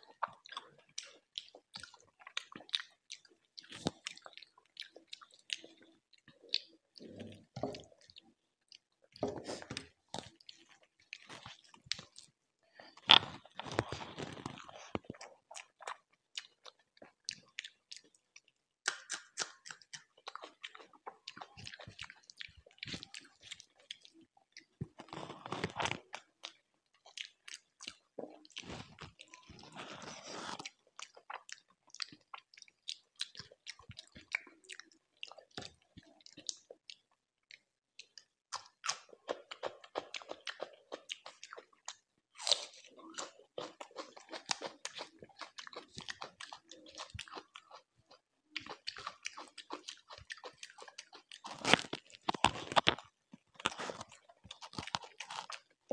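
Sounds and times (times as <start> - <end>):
chewing with crunchy bites: 0.0 - 55.9.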